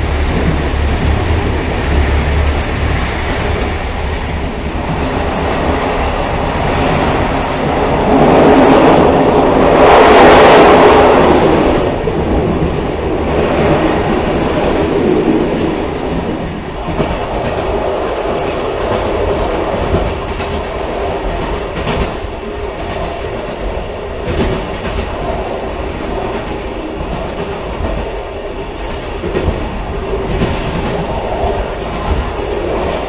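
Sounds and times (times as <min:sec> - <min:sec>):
railcar rumbling with clickety-clack: 0:00.0 - 0:33.0.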